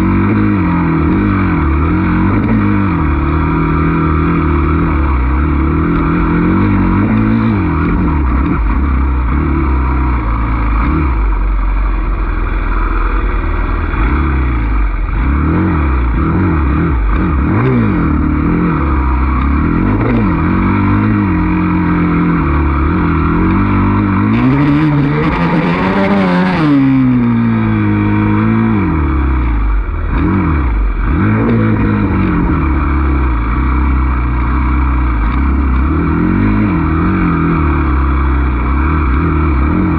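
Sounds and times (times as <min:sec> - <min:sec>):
dirt bike engine revving: 0:00.0 - 0:11.4, 0:12.6 - 0:39.9.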